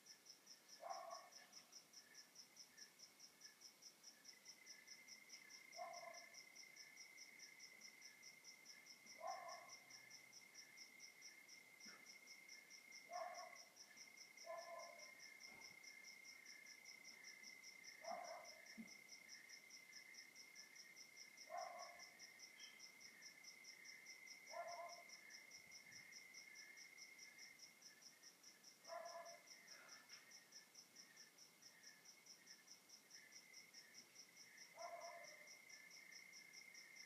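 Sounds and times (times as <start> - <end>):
fast pulsing cricket chirp: 0.0 - 37.0.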